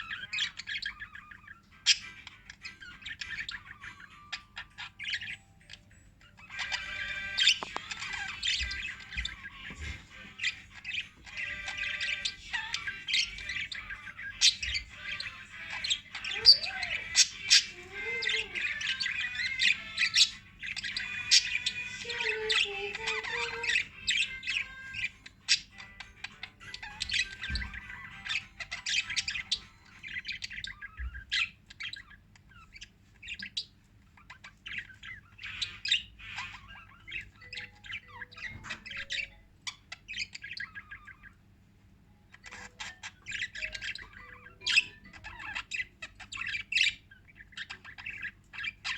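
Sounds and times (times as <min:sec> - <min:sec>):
parrots chirping and squawking: 0:00.0 - 0:48.9.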